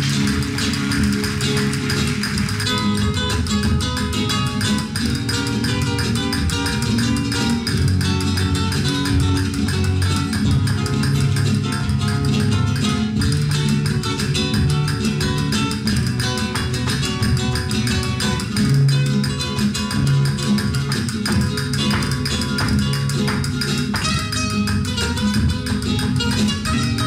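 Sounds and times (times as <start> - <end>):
flamenco guitar playing: 0.0 - 27.0.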